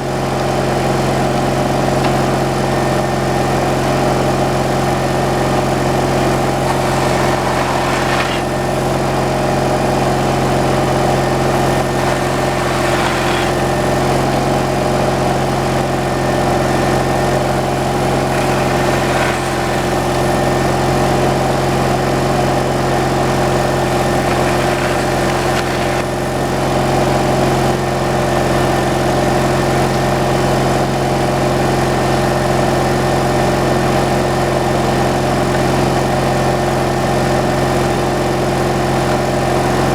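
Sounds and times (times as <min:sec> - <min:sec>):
gasoline engine running: 0:00.0 - 0:39.9.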